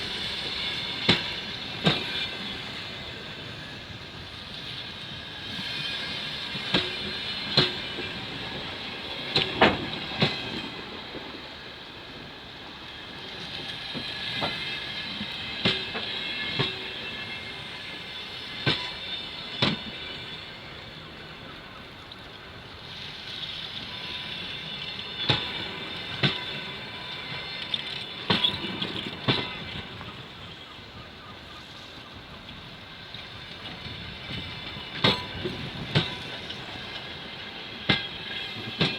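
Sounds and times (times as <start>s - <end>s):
train rolling noise: 0.0s - 38.9s
train wheels clacking over joints: 0.0s - 38.9s.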